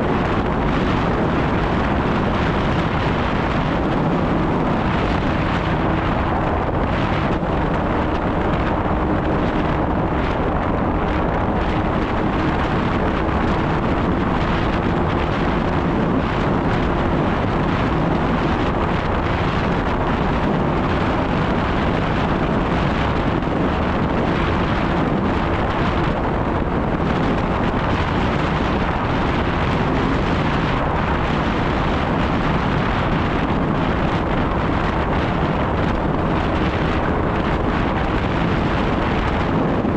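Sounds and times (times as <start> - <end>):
snowmobile engine running: 0.0 - 39.9
wind noise on microphone: 0.0 - 39.9.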